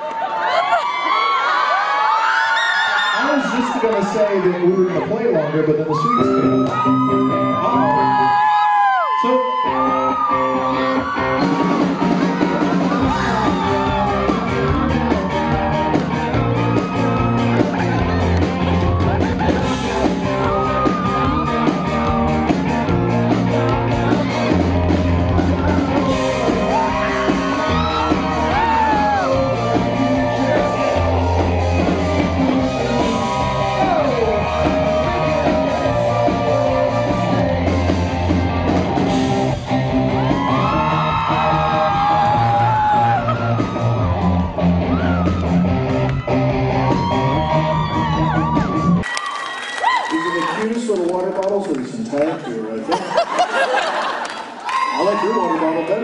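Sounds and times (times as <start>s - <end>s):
rock band playing: 3.6s - 49.5s.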